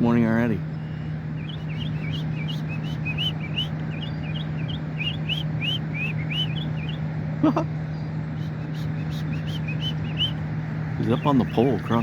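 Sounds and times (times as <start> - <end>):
bird chirping rapidly: 0.0 - 12.0
steady low hum: 0.0 - 12.0.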